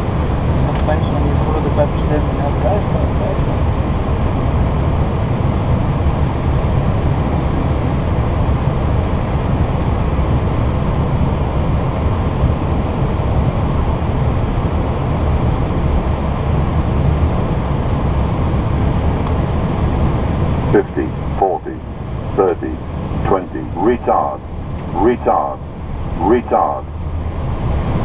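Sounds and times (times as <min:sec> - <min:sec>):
cockpit airflow and engine rush: 0:00.0 - 0:28.0.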